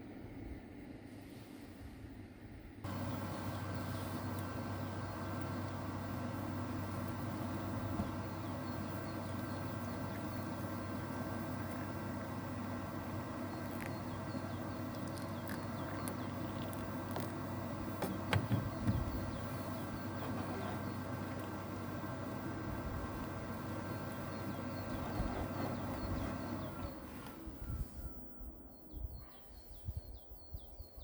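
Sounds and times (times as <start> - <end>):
low outdoor rumble: 0.0 - 30.8
small birds chirping: 2.9 - 31.0.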